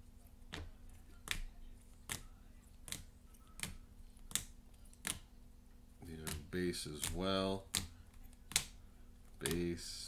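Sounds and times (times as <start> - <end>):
faint electrical hum: 0.0 - 10.0
trading cards clicking: 0.5 - 5.3, 6.0 - 9.7.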